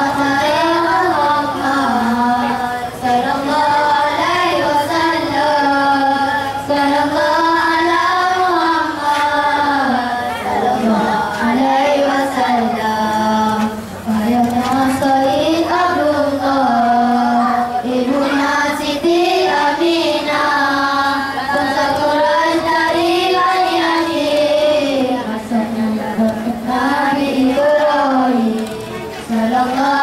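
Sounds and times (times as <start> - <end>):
boys singing in unison: 0.0 - 30.0.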